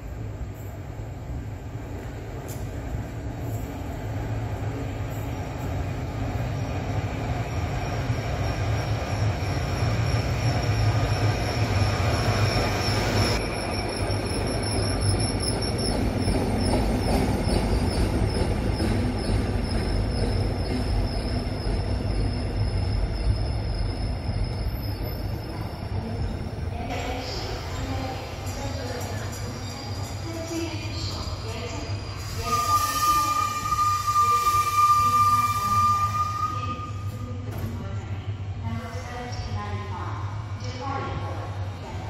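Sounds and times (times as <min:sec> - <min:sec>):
train rumble: 0:00.0 - 0:42.0.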